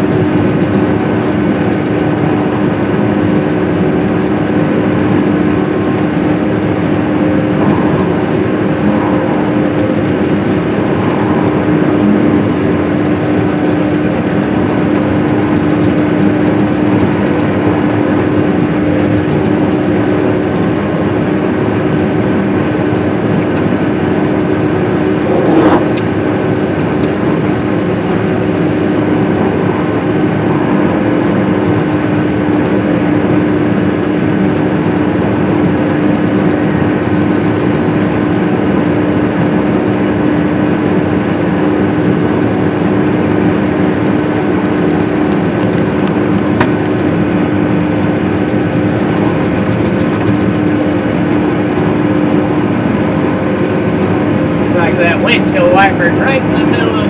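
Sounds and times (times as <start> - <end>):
swather engine humming: 0.0 - 57.0.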